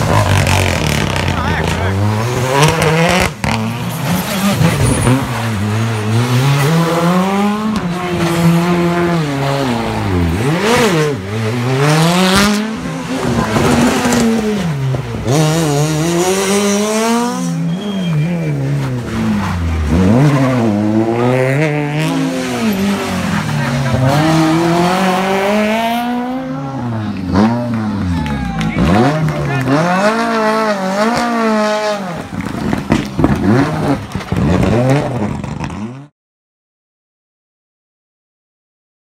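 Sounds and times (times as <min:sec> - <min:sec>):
rally car engines revving: 0:00.0 - 0:36.1.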